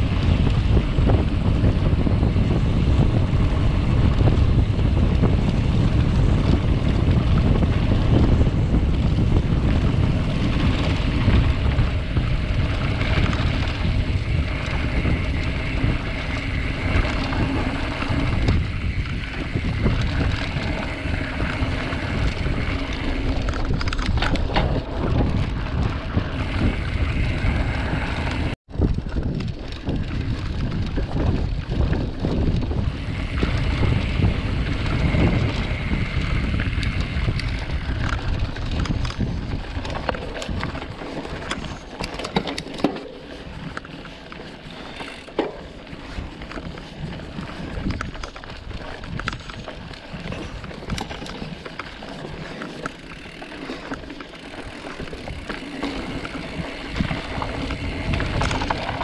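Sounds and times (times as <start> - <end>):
bike rattling over bumps: 0.0 - 59.0
wind buffeting microphone: 0.0 - 59.0.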